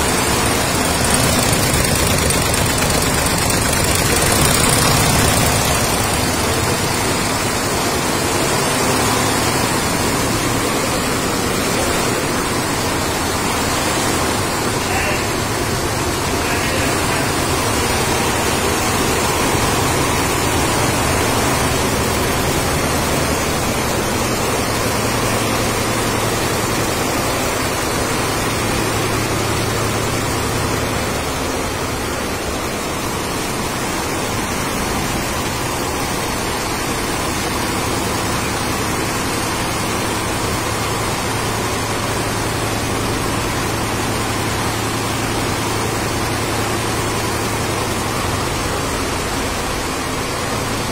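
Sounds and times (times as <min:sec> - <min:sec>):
embroidery machines running: 0:00.0 - 0:50.9.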